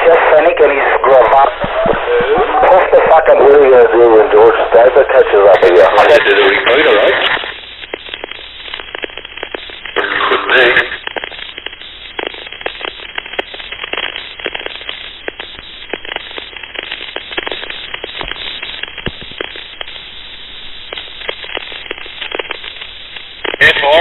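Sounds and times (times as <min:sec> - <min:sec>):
clicks over radio: 0:00.0 - 0:24.0
radio static crackling: 0:00.0 - 0:24.0.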